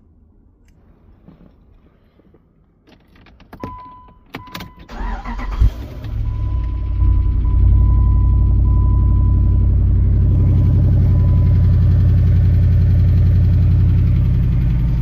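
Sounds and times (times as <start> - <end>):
car engine starting and idling: 2.9 - 15.0.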